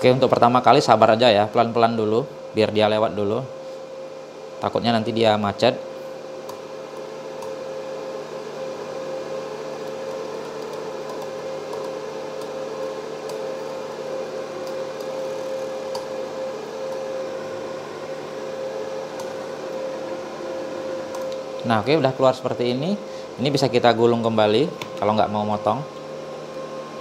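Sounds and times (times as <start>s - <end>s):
welder wire-feed motor humming: 0.0s - 27.0s.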